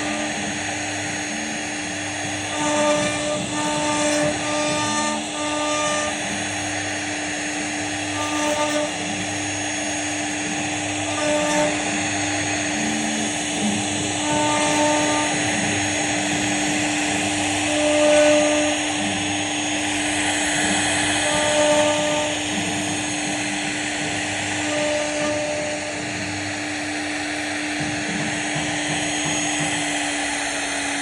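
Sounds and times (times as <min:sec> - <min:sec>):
router spindle cutting wood: 0:00.0 - 0:31.0.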